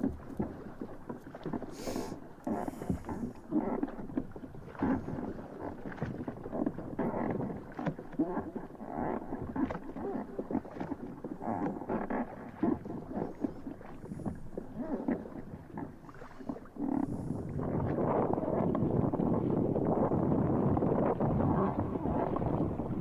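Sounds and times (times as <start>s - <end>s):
water slapping against hull: 0.0s - 23.0s.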